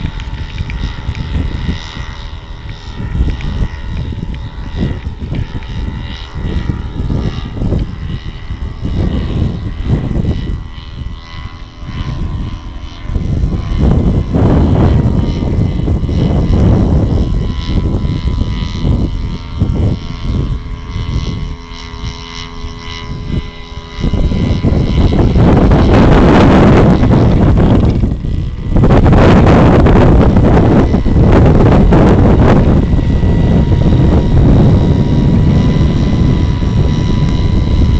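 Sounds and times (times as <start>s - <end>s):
paraglider engine droning overhead: 0.0s - 37.9s
wind buffeting microphone: 0.0s - 37.9s.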